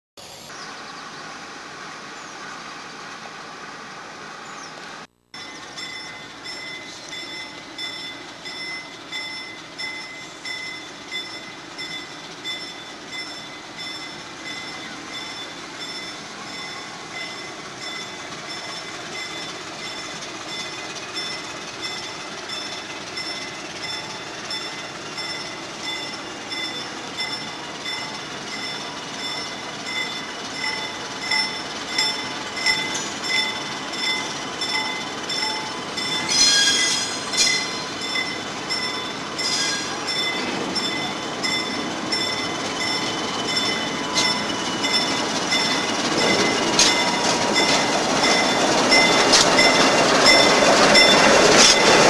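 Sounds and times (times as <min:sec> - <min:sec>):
diesel locomotive running: 0:00.2 - 0:52.0
crossing warning bell ringing: 0:05.4 - 0:52.0.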